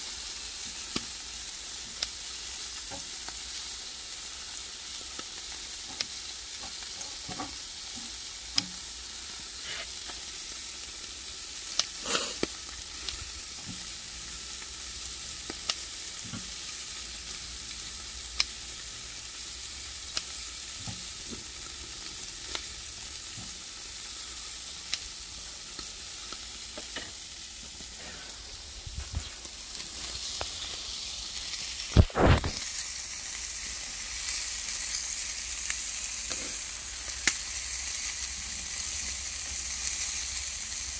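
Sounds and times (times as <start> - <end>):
fish sizzling on a grill: 0.0 - 40.9.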